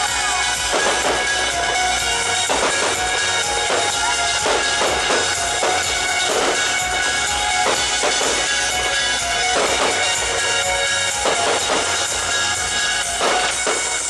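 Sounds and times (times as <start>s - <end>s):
music with drums: 0.0s - 14.0s.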